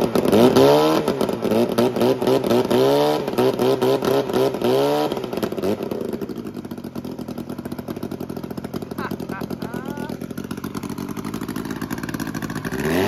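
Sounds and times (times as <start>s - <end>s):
chainsaw engine revving and idling: 0.0s - 13.0s.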